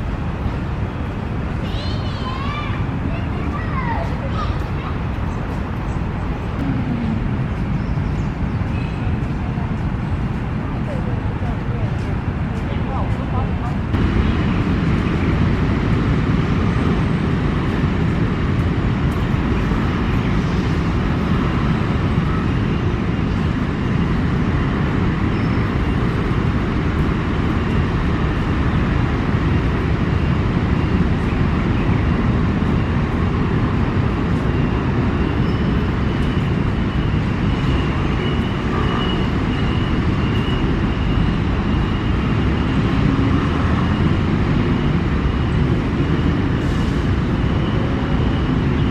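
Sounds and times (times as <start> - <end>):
low rumble of city traffic: 0.0 - 48.9.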